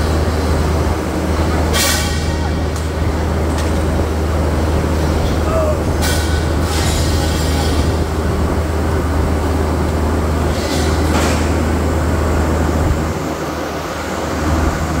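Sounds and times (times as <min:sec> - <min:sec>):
mill machinery hum: 0:00.0 - 0:15.0.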